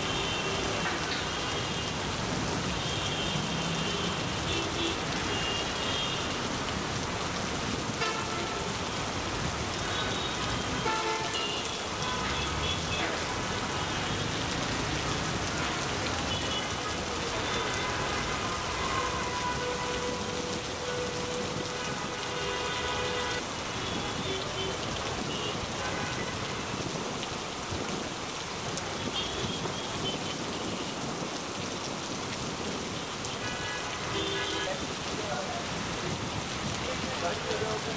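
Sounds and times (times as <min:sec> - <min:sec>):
heavy rain on street and vehicles: 0:00.0 - 0:37.9.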